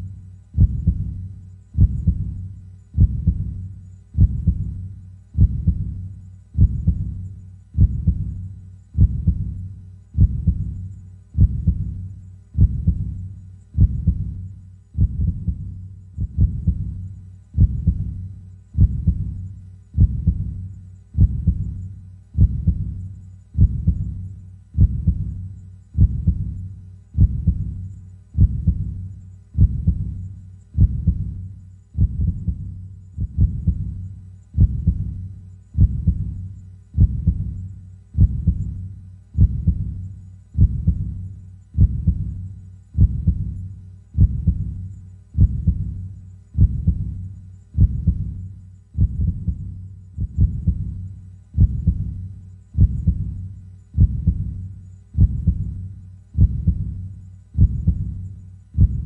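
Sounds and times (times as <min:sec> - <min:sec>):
slow heartbeat: 0:00.0 - 0:59.0.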